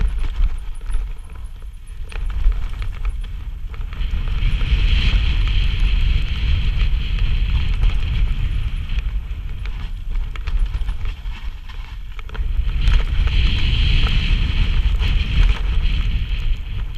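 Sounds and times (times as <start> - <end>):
bike rattling clicks and knocks: 0.0 - 16.9
low tyre rumble: 0.0 - 16.9
wind rushing over microphone: 0.0 - 16.9.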